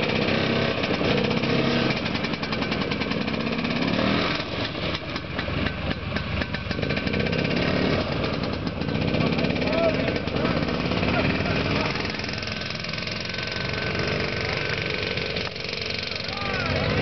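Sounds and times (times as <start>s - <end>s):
snowmobile engine pulling away: 0.0s - 17.0s.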